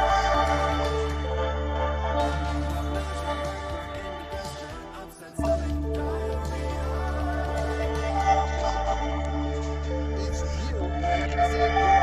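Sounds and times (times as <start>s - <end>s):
background music with chords: 0.0s - 12.0s.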